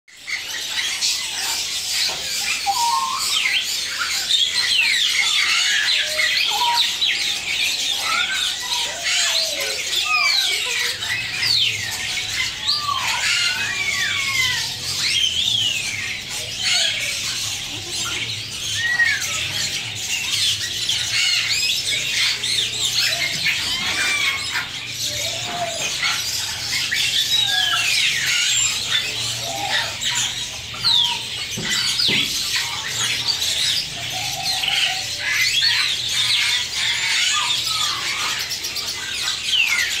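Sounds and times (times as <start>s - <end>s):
parrots chirping and squawking: 0.1s - 40.0s.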